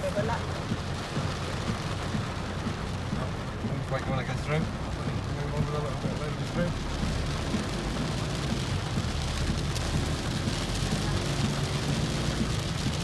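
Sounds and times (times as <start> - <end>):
car driving rumble: 0.0 - 13.0
heavy rain drumming on car roof: 0.0 - 13.0.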